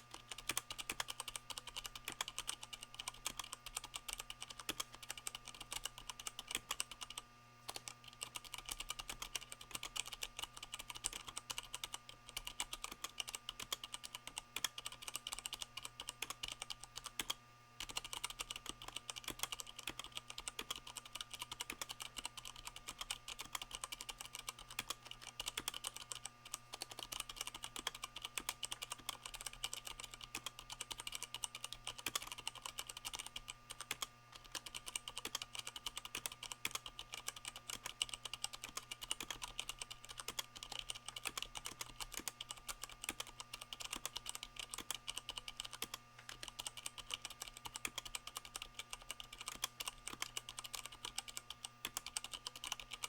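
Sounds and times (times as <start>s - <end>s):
mechanical keyboard typing: 0.0s - 53.0s.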